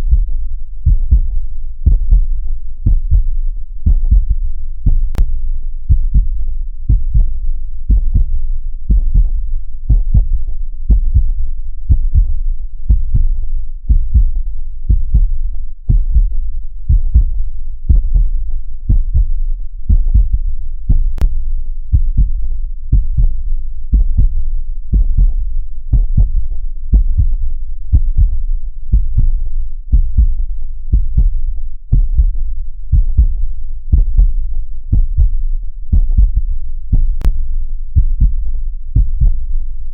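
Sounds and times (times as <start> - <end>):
heartbeat thumps: 0.0 - 39.6.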